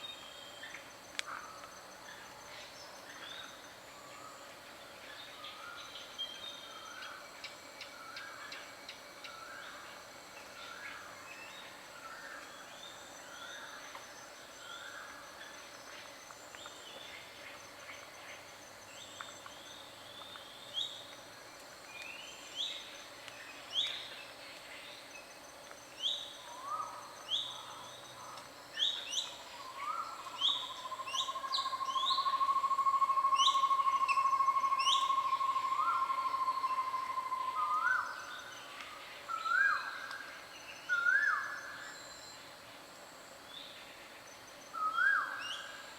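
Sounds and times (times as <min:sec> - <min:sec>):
faint high insect drone: 0:00.0 - 0:45.9.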